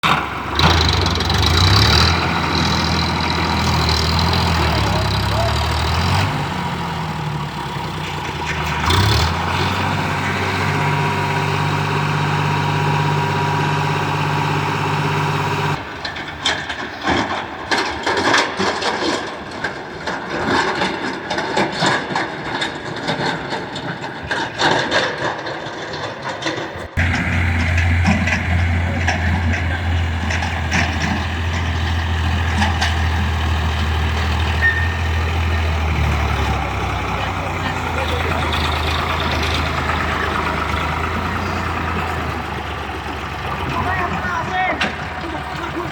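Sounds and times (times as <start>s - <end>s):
irregular crackling clattering: 0.0s - 45.9s
tractor diesel engine running: 0.0s - 45.9s.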